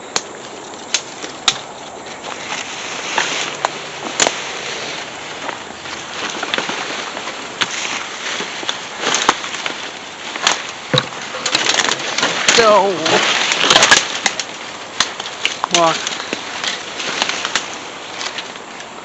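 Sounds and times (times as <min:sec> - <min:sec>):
footsteps crunching dry leaves: 0:00.0 - 0:19.0
twigs snapping: 0:00.0 - 0:19.0.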